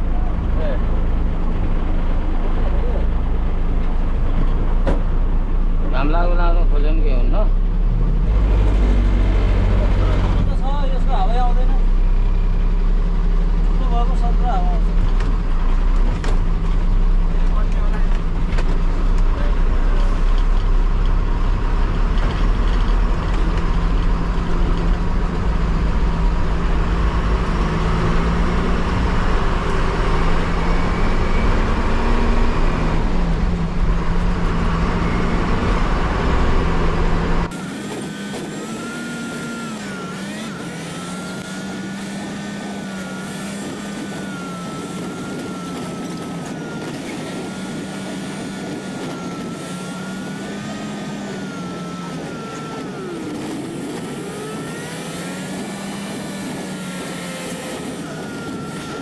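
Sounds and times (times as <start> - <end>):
bus diesel engine running: 0.0 - 59.0
road rumble: 0.0 - 59.0
thin wavering engine whine: 0.0 - 59.0.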